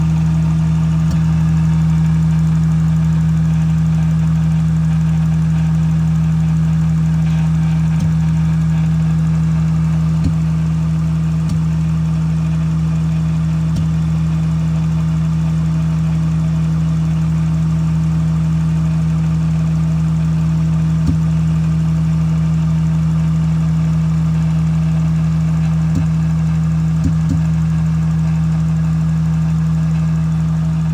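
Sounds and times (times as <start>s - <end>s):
engine idling: 0.0s - 30.9s
engine ticking pop: 0.0s - 30.9s.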